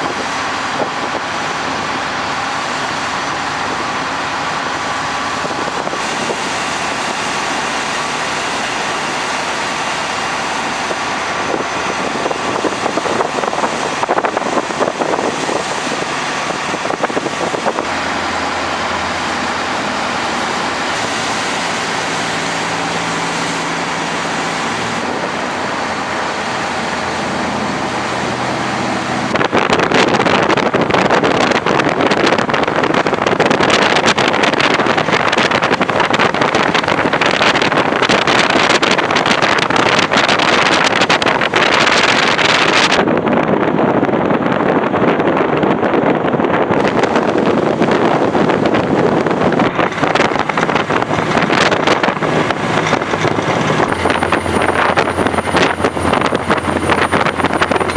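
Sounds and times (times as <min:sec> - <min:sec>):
boat engine drone: 0:00.0 - 0:57.9
water rushing against hulls: 0:00.0 - 0:57.9
wind buffeting microphone: 0:00.0 - 0:57.9.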